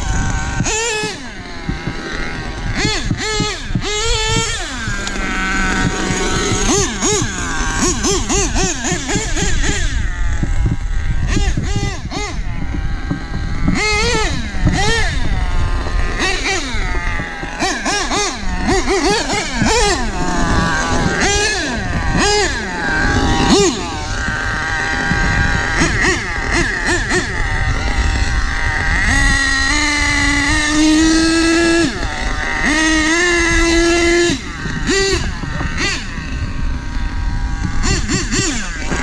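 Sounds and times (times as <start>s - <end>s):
model engine revving: 0.0s - 39.0s.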